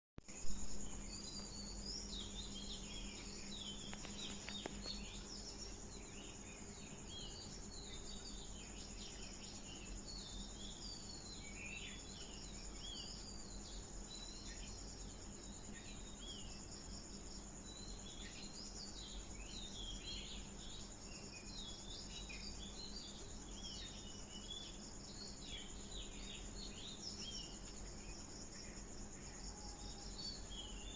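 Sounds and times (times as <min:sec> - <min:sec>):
bird chirps: 0:00.4 - 0:30.9.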